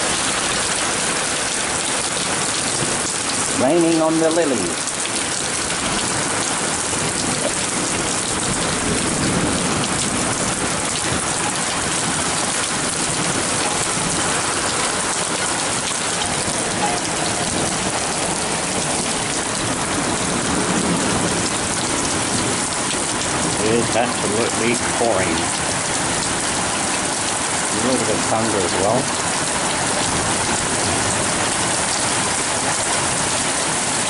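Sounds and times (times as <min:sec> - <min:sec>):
heavy rain pattering on plants: 0:00.0 - 0:34.0.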